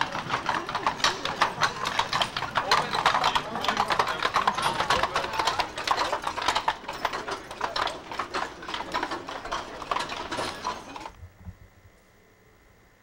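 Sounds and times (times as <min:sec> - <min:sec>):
carriage rattling: 0:00.0 - 0:11.2
horse hooves on cobblestones: 0:00.0 - 0:11.2.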